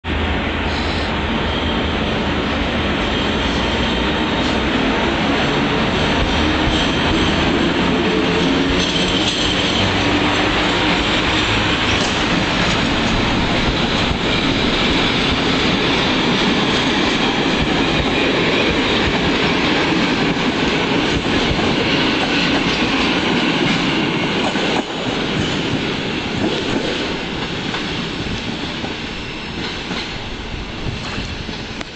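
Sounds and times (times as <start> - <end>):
train coaches rolling past: 0.1 - 31.9.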